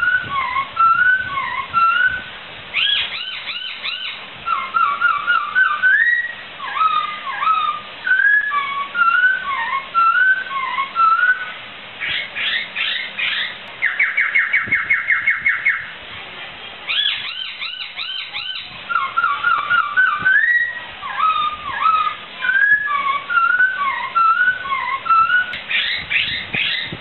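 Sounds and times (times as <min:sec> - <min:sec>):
bird singing whistled phrases: 0:00.0 - 0:16.0, 0:16.9 - 0:27.0.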